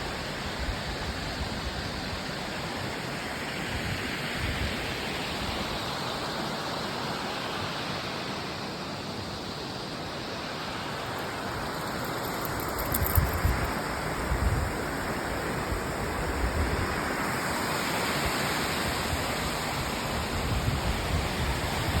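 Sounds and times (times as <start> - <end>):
ocean surf washing: 0.0 - 22.0.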